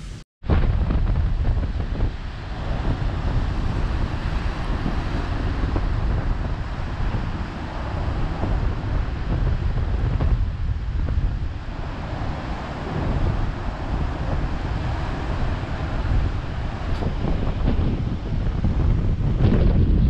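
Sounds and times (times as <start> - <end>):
wind buffeting microphone: 0.4 - 20.0
surf washing over stones: 0.5 - 19.4.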